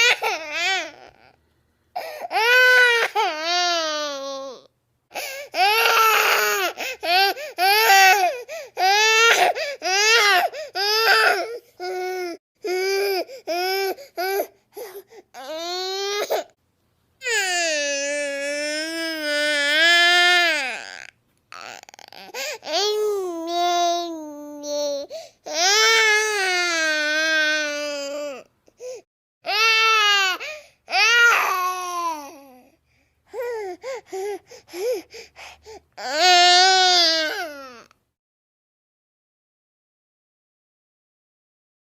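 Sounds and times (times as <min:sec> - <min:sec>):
baby crying: 0:00.0 - 0:01.4, 0:02.0 - 0:16.6, 0:17.2 - 0:28.5, 0:29.5 - 0:35.1, 0:36.0 - 0:37.9.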